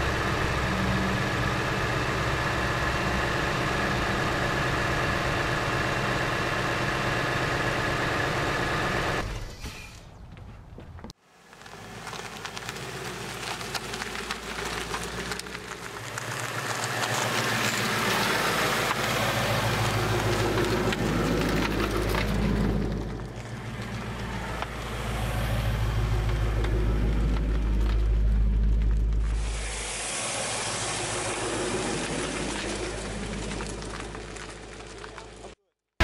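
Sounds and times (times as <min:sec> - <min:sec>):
car engine and exhaust running: 0:00.0 - 0:09.3, 0:11.3 - 0:35.6.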